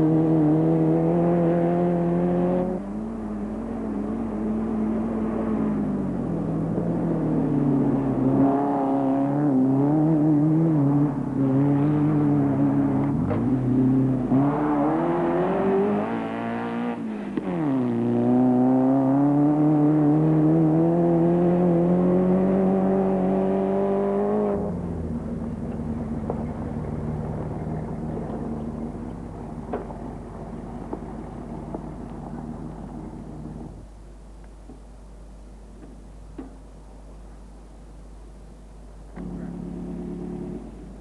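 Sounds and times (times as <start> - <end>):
race car engine accelerating: 0.0 - 33.8, 39.1 - 41.0
engine hum: 0.0 - 41.0.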